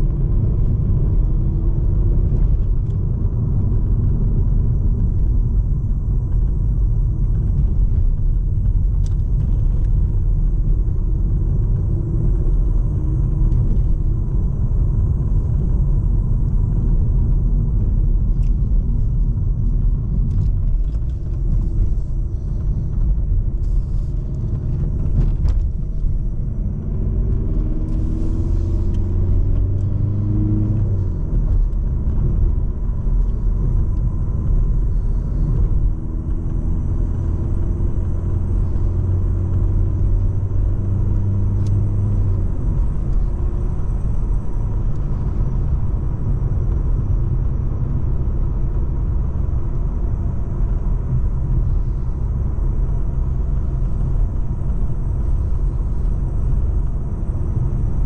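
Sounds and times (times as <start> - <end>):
car engine drone: 0.0 - 58.0
road rumble: 0.0 - 58.0.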